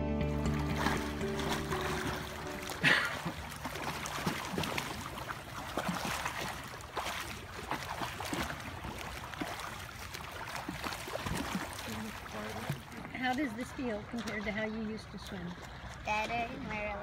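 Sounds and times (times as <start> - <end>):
swimmer splashing in pool: 0.3 - 17.0.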